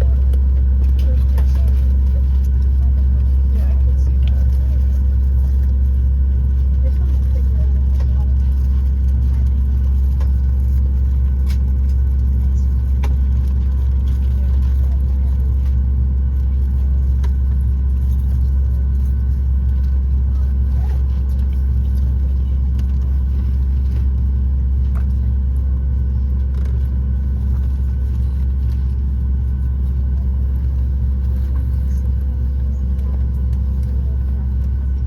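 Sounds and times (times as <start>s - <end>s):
airplane cabin rumble: 0.0s - 35.0s
faint steady hums: 0.0s - 35.0s.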